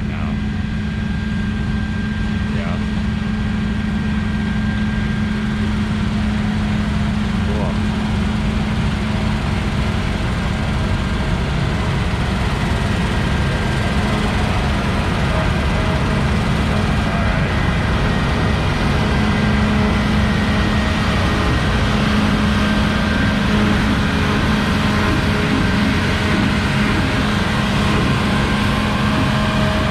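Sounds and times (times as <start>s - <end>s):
heavy farm vehicle engine running: 0.0s - 29.9s.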